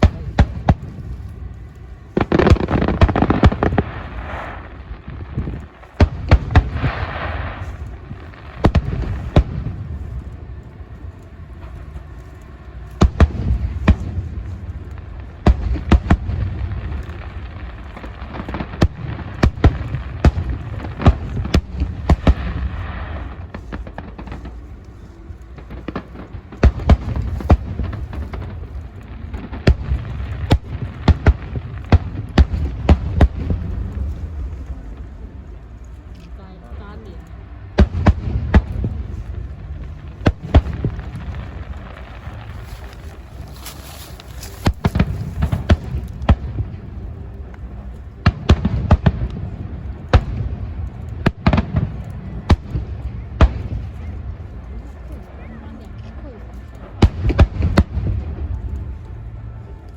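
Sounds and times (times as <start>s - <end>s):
fireworks bursting: 0.0s - 59.9s
low rumble: 0.0s - 59.9s.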